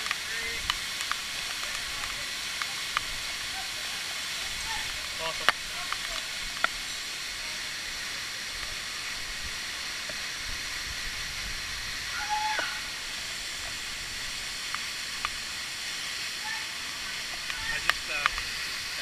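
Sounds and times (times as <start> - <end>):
water rushing in a stream: 0.0 - 19.0.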